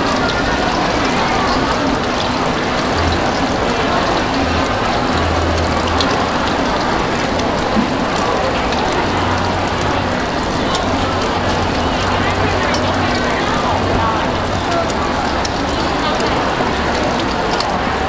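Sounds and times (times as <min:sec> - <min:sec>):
egg and onion sizzling in oil: 0:00.1 - 0:18.0.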